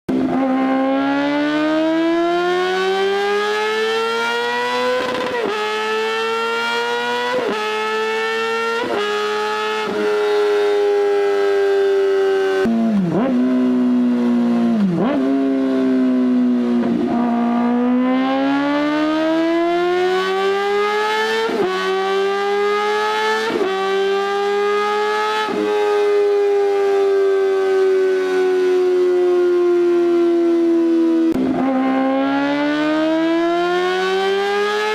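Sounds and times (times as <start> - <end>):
motorcycle engine revving high: 0.1 - 34.9.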